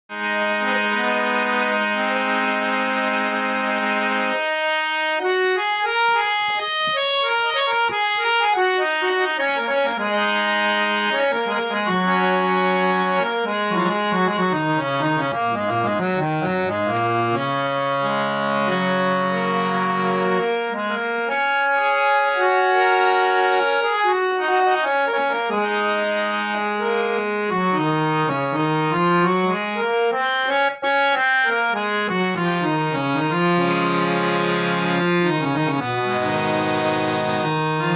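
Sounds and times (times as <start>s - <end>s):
harmonium playing scales: 0.0s - 37.9s.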